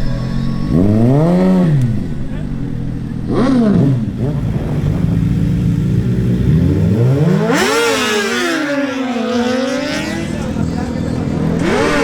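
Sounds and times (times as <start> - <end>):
sportbike engines revving: 0.0 - 12.0.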